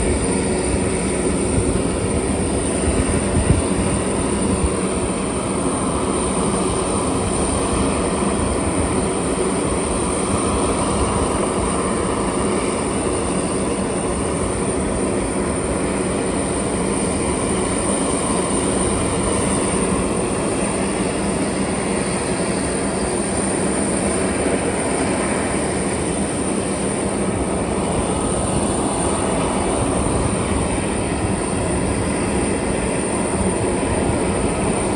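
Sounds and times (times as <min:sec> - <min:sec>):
high engine whine: 0:00.0 - 0:34.9.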